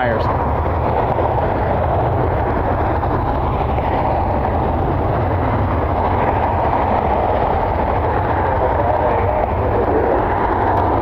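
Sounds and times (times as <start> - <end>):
faint steady whine: 0.0 - 11.0
jet engines running: 0.0 - 11.0
wind rumble on microphone: 0.0 - 11.0.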